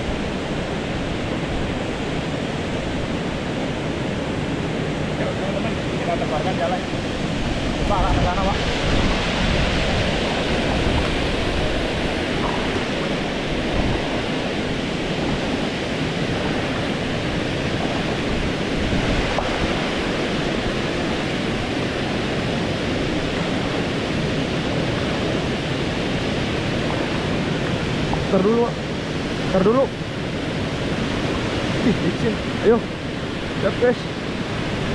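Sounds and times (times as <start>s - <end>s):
water rushing over weir: 0.0s - 34.9s.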